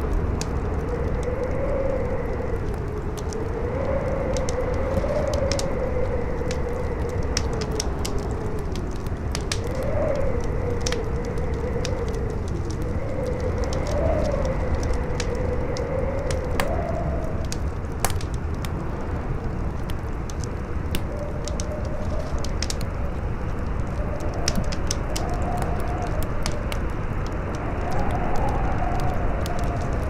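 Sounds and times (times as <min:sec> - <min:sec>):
fire crackling and popping: 0:00.0 - 0:30.0
howling wind: 0:00.0 - 0:30.0.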